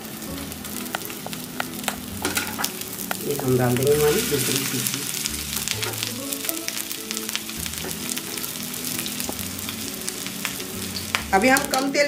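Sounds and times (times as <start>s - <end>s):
background music: 0.0s - 12.0s
kebabs sizzling in oil: 0.0s - 12.0s.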